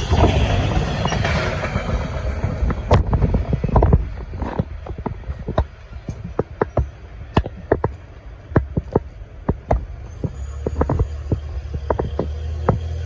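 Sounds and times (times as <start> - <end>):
low rumble of train: 0.0 - 13.0
steady low hum: 0.0 - 13.0
train wheels clicking over rail joints: 0.0 - 13.0.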